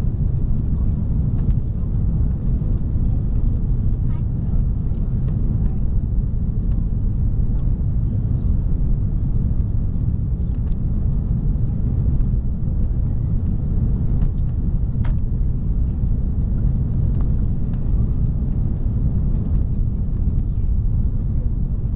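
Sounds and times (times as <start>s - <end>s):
airplane cabin rumble: 0.0s - 21.9s.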